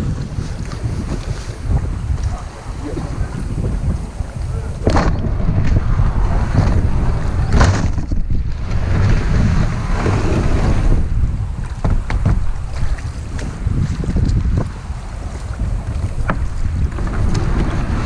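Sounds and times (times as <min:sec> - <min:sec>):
water splashes: 0:00.0 - 0:18.0
wind rumbling on microphone: 0:00.0 - 0:18.0.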